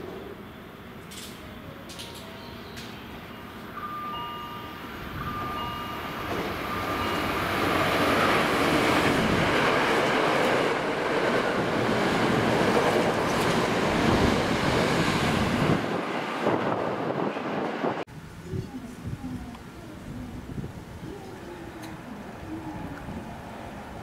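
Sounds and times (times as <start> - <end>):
electric train passing: 0.0 - 18.4, 19.7 - 24.0.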